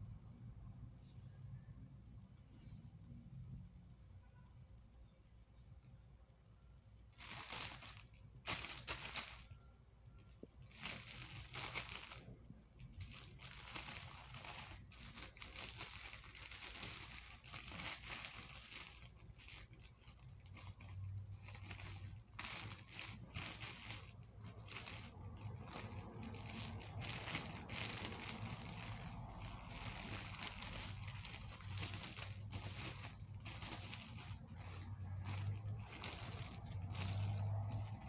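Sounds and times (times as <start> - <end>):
plastic bag crinkling: 7.2 - 38.0.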